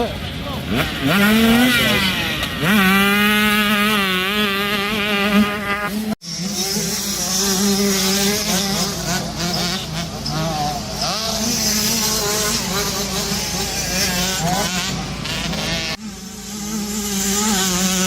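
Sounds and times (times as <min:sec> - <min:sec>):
dirt bike engines buzzing: 0:00.0 - 0:18.0.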